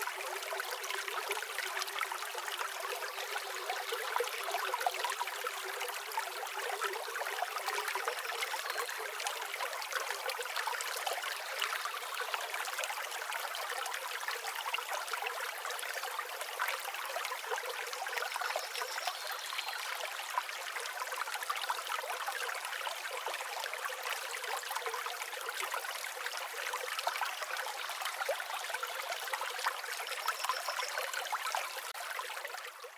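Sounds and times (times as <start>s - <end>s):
stream water babbling: 0.0s - 32.9s.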